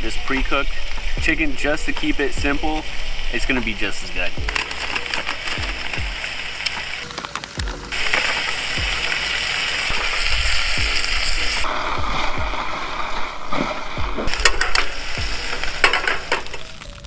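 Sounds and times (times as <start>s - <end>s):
vegetables sizzling in oil: 0.0s - 11.7s, 14.3s - 17.0s
background music with deep bass: 0.0s - 17.0s.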